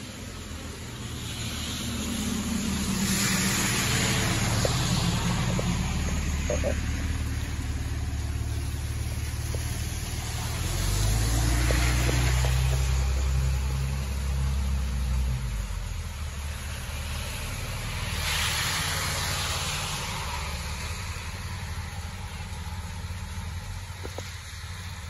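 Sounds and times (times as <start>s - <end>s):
low engine hum: 0.0s - 25.0s
rain hissing: 0.0s - 25.0s
tyres hissing through water: 0.0s - 25.0s
vehicles driving on wet street: 0.0s - 25.0s.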